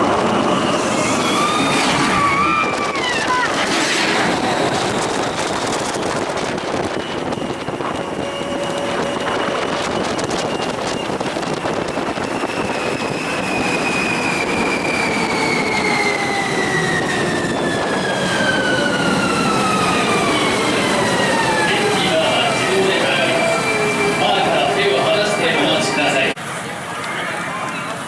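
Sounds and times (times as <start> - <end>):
electric train motor whine: 0.0 - 26.4
train rumble: 0.0 - 28.0.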